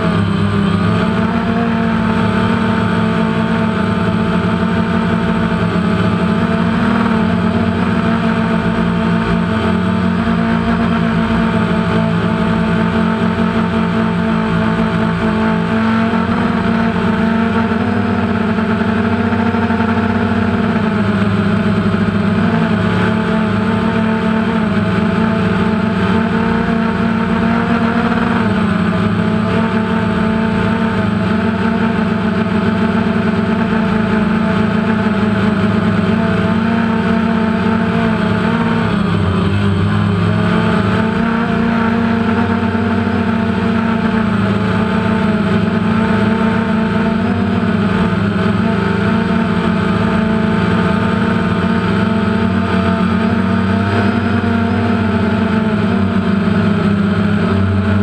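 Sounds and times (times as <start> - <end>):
drone propellers buzzing: 0.0 - 58.0.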